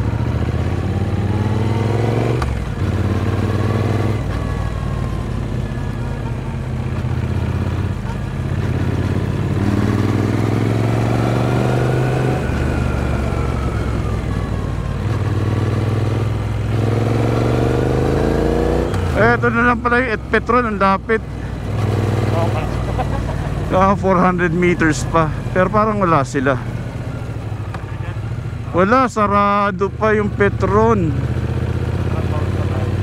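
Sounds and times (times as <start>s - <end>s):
motorcycle engine under way: 0.0s - 33.0s.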